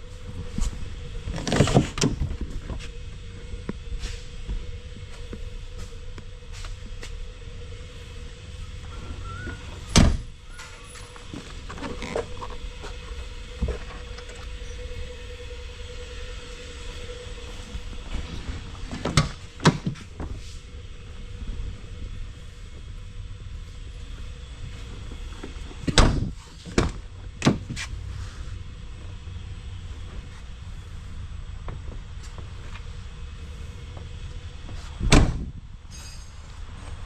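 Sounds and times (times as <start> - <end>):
faint hum: 0.0 - 37.0
low rumble: 0.0 - 37.0.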